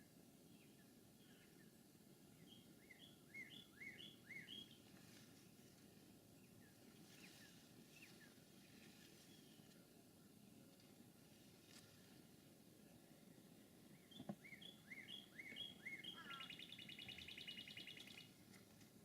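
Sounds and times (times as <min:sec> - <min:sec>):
low steady background noise: 0:00.0 - 0:19.0
songbird singing: 0:00.0 - 0:19.0.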